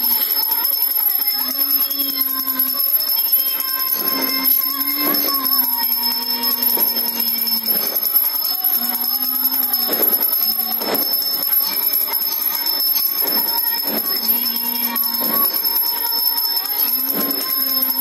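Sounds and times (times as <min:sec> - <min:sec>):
hand bell ringing: 0:00.0 - 0:18.0
slow wavering melody: 0:00.0 - 0:18.0.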